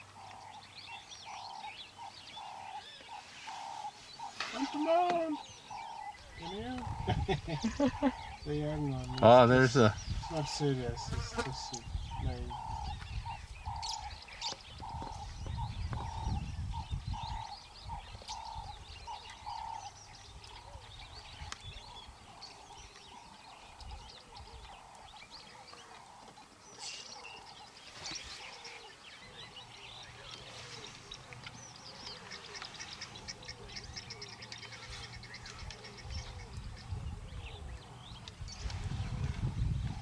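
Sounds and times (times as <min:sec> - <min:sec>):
birds chirping and trilling: 0:00.0 - 0:40.0.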